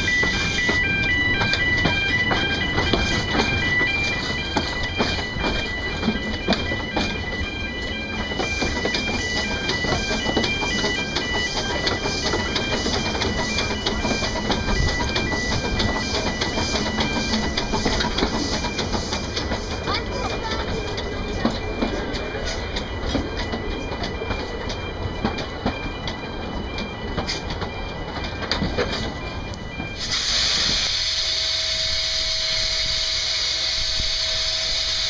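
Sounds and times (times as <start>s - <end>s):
wheels clicking and knocking: 0.0s - 30.0s
steam train running on track: 0.0s - 35.0s.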